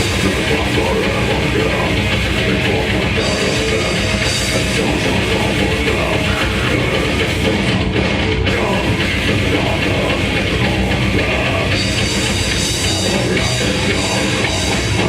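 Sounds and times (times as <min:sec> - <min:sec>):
bass guitar: 0:00.0 - 0:15.0
distorted electric guitars: 0:00.0 - 0:15.0
fast drum kit: 0:00.0 - 0:15.0.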